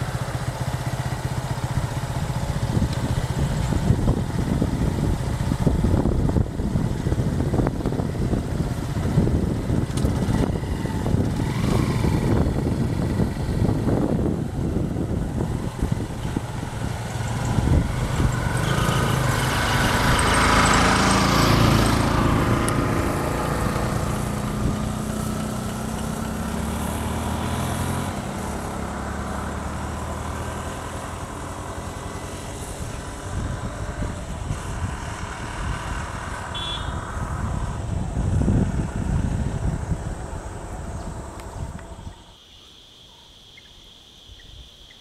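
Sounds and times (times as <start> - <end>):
motorcycle passing by: 0.0 - 42.3.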